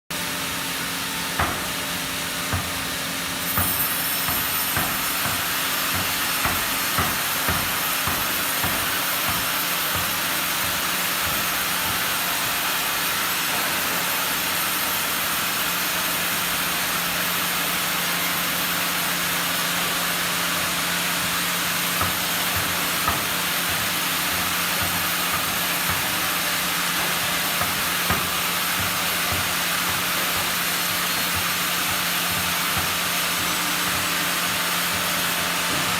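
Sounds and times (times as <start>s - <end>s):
sawmill machinery running: 0.1s - 35.9s.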